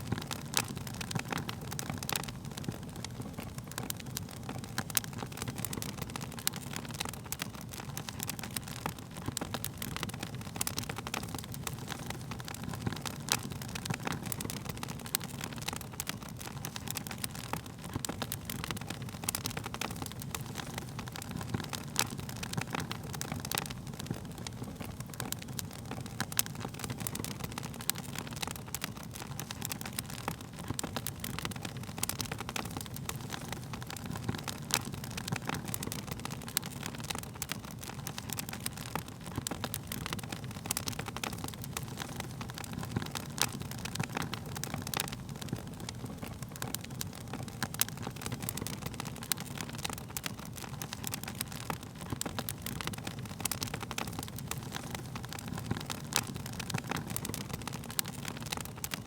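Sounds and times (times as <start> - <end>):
low rumble of flames: 0.0 - 59.0
wood crackling and popping: 0.0 - 59.0.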